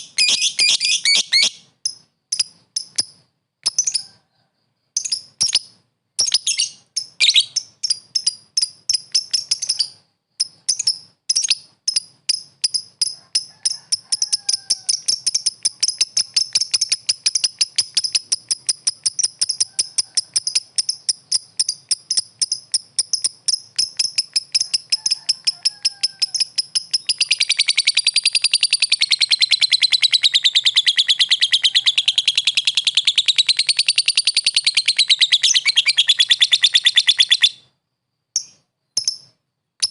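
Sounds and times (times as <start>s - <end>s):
bird chirping and trilling: 0.0s - 4.2s, 5.0s - 13.2s, 14.2s - 37.7s.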